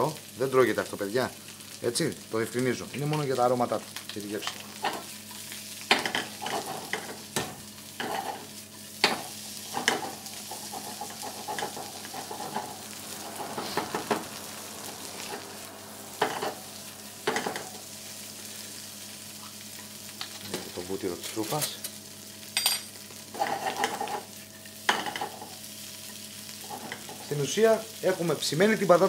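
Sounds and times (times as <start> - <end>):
potatoes sizzling in a pan: 0.0 - 29.0.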